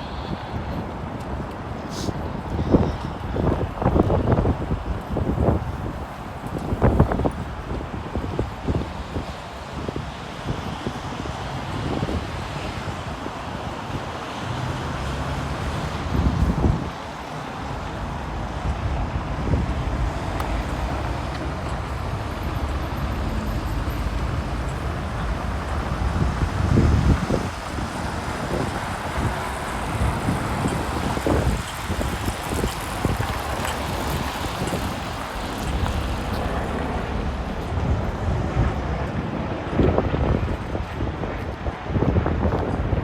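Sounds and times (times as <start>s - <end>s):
road traffic: 0.0s - 43.0s
wind buffeting microphone: 0.0s - 43.0s.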